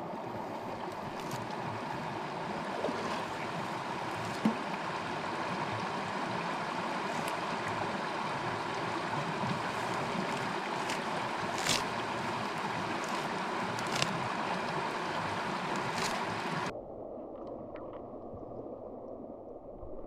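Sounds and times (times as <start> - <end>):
brook flowing over stones: 0.0 - 16.7.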